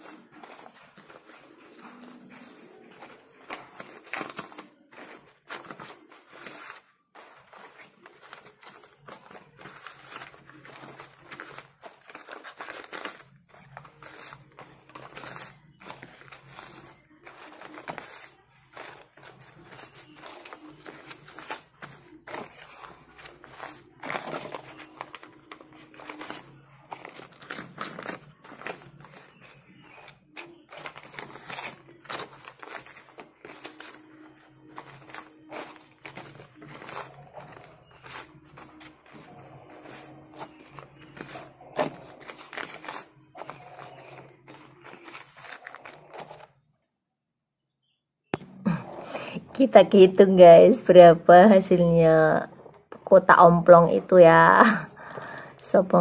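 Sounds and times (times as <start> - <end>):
paper banknotes crinkling: 0.0 - 46.6, 54.2 - 56.0.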